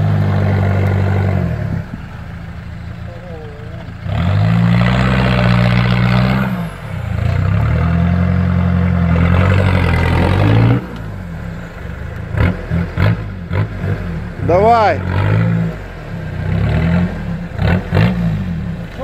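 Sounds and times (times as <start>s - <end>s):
off-road vehicle engine pulling hard: 0.0s - 19.0s.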